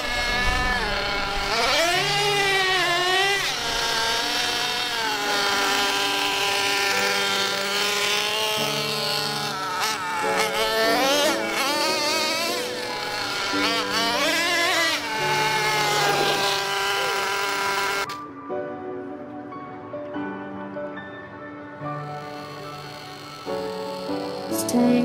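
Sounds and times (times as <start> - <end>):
small engine revving high buzz: 0.0 - 18.1, 22.0 - 25.0.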